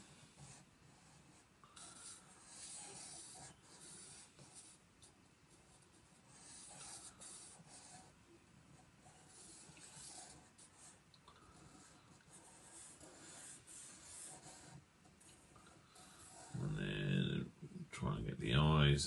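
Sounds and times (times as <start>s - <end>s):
marker pen scratching on paper: 0.0s - 16.9s.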